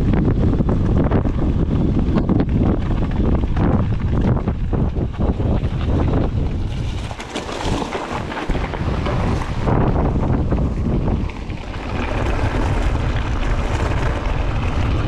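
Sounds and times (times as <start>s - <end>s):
bike rattling over rough trail: 0.0s - 15.0s
wind buffeting microphone: 0.0s - 15.0s.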